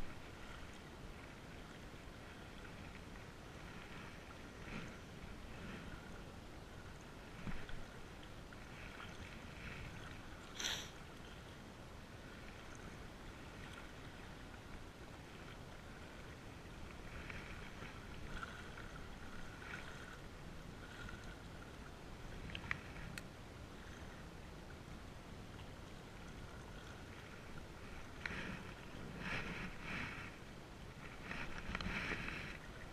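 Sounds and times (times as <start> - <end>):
waves lapping against rocks: 0.0 - 11.6, 12.2 - 24.3, 25.6 - 32.9.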